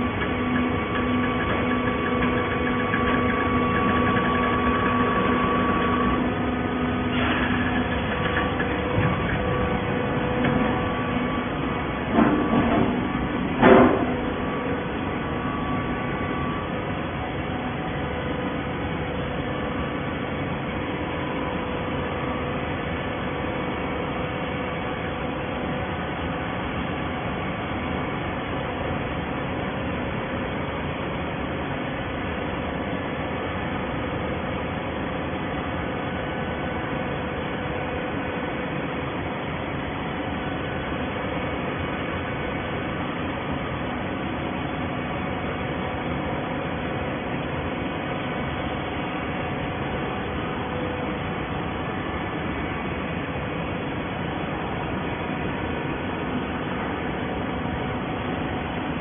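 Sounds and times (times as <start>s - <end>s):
baler mechanical hum: 0.0s - 59.0s.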